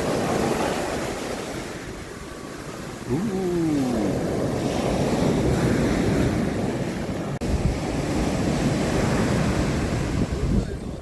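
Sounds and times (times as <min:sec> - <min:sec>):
sea waves breaking: 0:00.0 - 0:10.4
wind buffeting microphone: 0:02.0 - 0:11.0.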